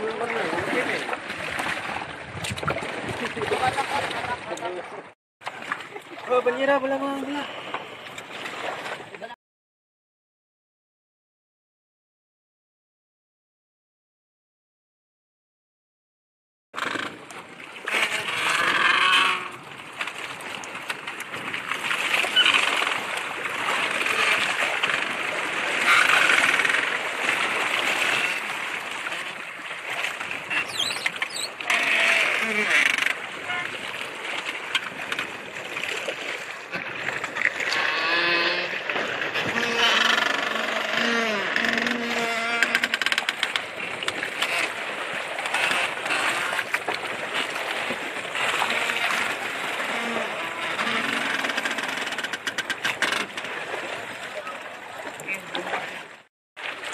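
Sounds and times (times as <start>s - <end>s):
sea water splashing: 0.0s - 9.4s, 16.8s - 56.9s.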